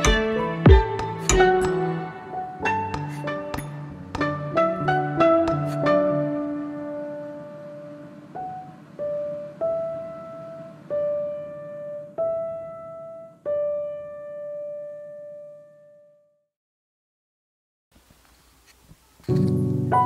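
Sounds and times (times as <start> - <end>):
slow piano notes: 0.0 - 16.2, 19.2 - 20.0.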